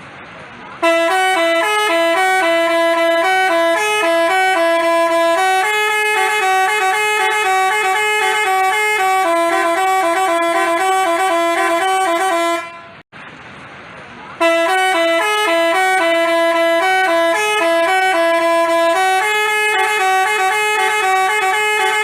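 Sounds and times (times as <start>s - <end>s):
musical bus horn tune: 0.8s - 13.1s, 14.4s - 22.0s.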